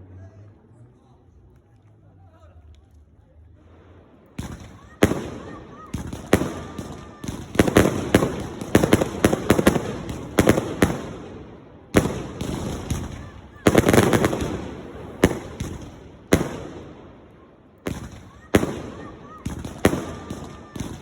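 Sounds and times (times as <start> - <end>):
fireworks bangs and crackling: 3.6 - 21.0.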